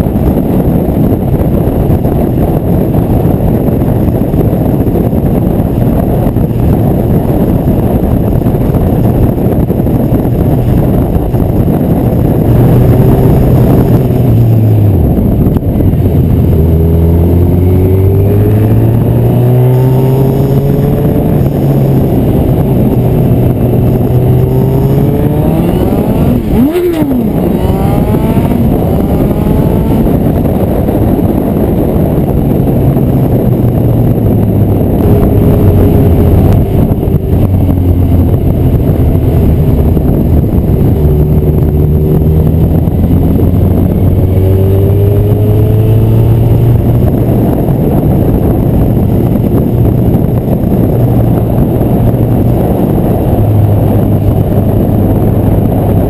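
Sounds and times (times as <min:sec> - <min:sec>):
motorcycle engine revving: 0:00.0 - 0:56.0
wind noise on camera: 0:00.0 - 0:56.0.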